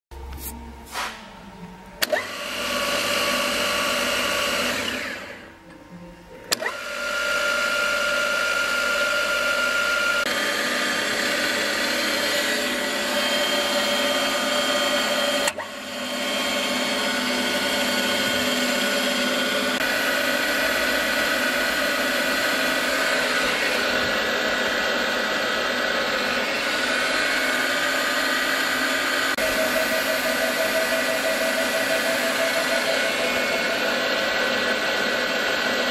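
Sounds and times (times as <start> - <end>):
milling machine whine: 0.2 - 35.9.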